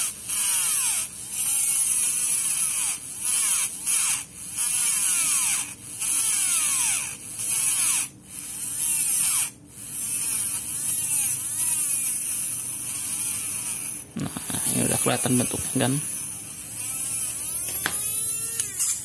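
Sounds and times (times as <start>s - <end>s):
small motor whining: 0.0s - 19.0s.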